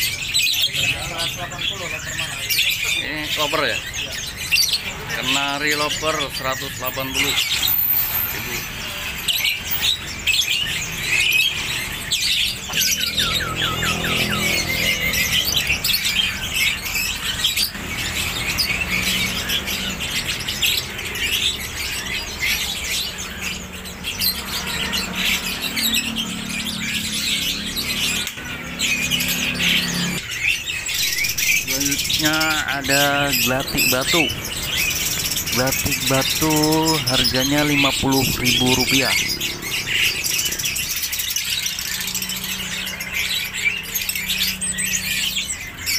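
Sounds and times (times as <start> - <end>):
songbirds chirping and twittering: 0.0 - 45.9.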